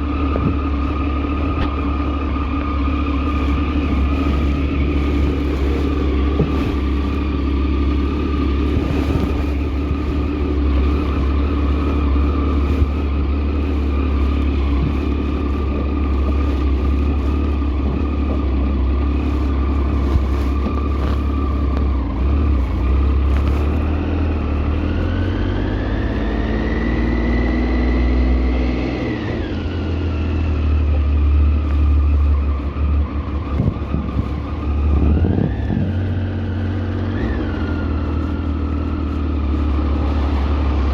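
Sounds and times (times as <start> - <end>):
vehicle engine rumble: 0.0 - 40.9.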